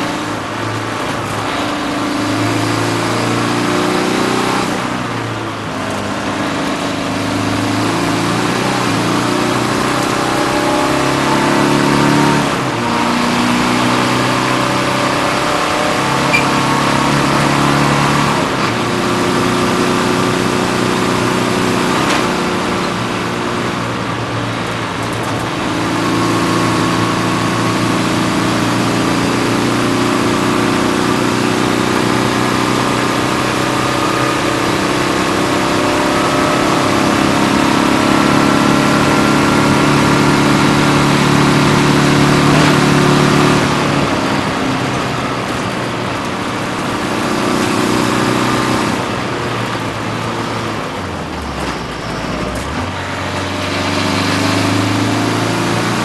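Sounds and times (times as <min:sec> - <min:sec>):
car engine accelerating hard: 0:00.0 - 0:56.0
road and wind noise: 0:00.0 - 0:56.0.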